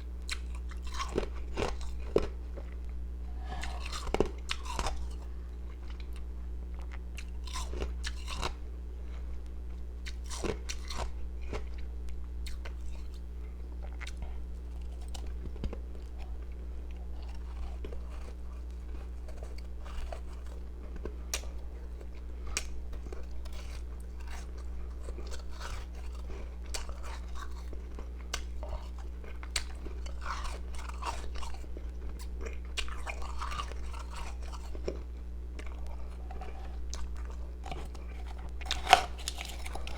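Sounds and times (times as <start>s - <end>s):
person chewing crunchy ice: 0.0s - 9.3s, 10.0s - 39.9s
low electrical hum: 0.0s - 39.9s.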